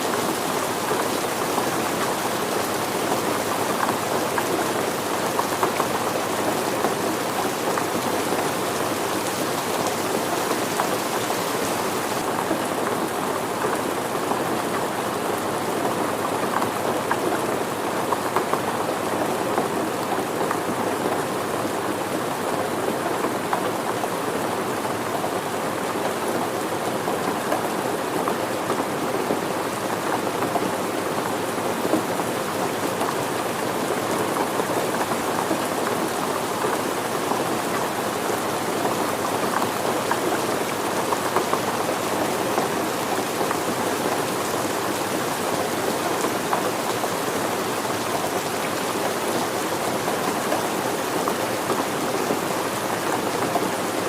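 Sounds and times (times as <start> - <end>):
steady rain falling: 0.0 - 54.0
raindrops striking surfaces: 0.1 - 54.0.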